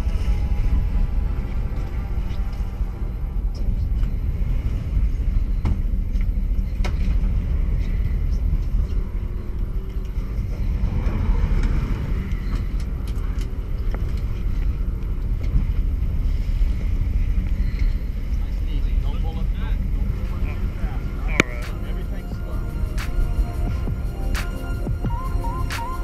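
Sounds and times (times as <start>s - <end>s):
boat engines rumbling: 0.0s - 26.0s
wake water washing: 0.0s - 26.0s.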